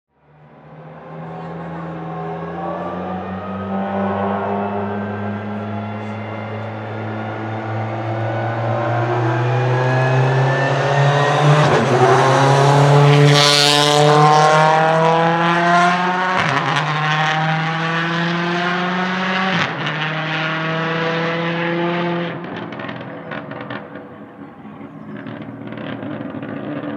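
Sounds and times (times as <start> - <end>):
car engine accelerating hard: 0.3 - 26.9.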